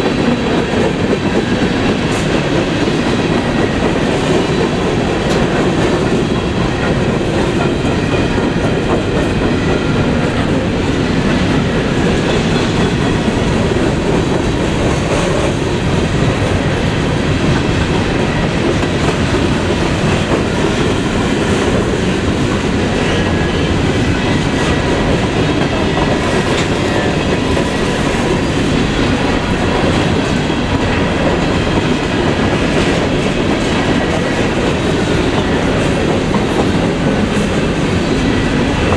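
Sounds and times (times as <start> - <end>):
freight train rolling on rails: 0.0 - 38.9.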